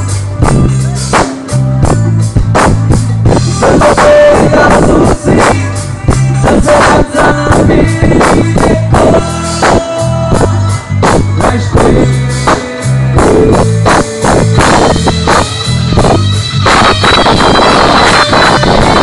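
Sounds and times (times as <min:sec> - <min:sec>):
band music over loudspeakers: 0:00.0 - 0:19.0
bass guitar: 0:00.0 - 0:19.0
drums steady beat: 0:00.0 - 0:19.0
electric guitar: 0:00.0 - 0:19.0.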